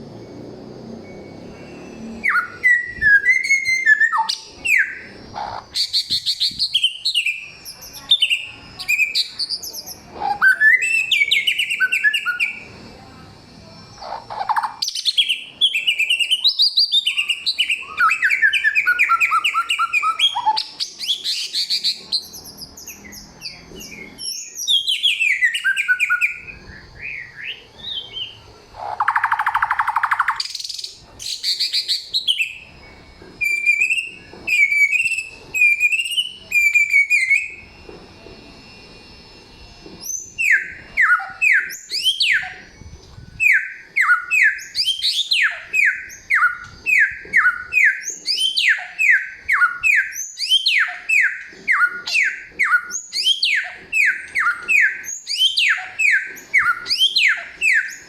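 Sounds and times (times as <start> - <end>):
songbird singing whistled phrases: 1.0 - 12.8, 13.9 - 37.8, 40.0 - 58.0.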